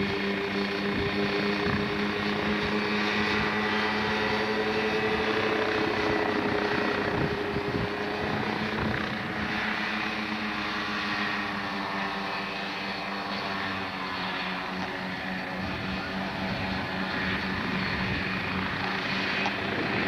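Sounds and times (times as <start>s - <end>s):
helicopter engine and rotor: 0.0s - 20.0s.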